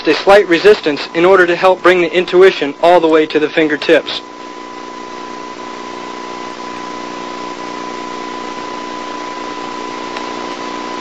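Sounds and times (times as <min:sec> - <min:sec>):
tape hiss: 0:00.0 - 0:11.0.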